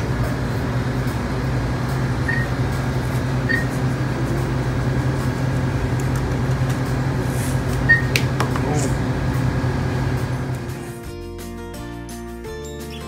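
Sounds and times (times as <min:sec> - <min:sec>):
machinery humming: 0:00.0 - 0:11.1.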